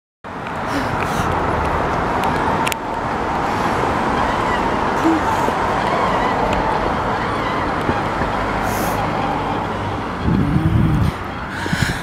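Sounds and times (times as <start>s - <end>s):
street noise: 0.2s - 12.0s
wind on microphone: 0.9s - 12.0s.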